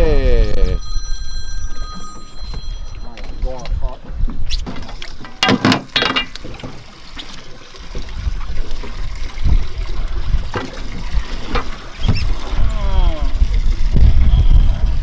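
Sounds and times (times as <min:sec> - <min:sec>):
water trickling and splashing: 0:02.2 - 0:15.0.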